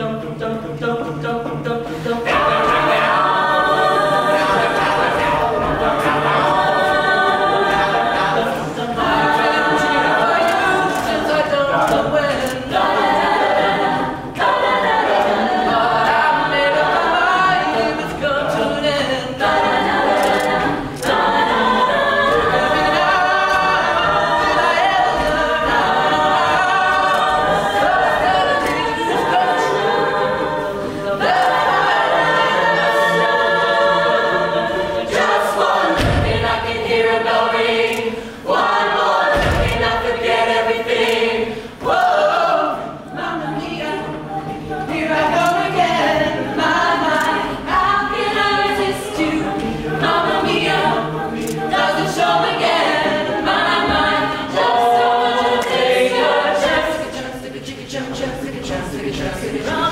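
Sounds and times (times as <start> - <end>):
a cappella group singing: 0.0 - 59.9.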